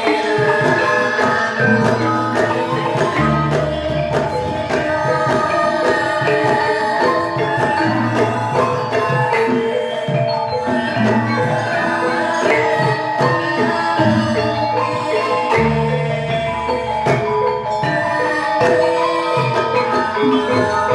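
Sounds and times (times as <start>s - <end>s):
hand drum strokes: 0.0s - 20.9s
metallophones ringing melody: 0.0s - 20.9s.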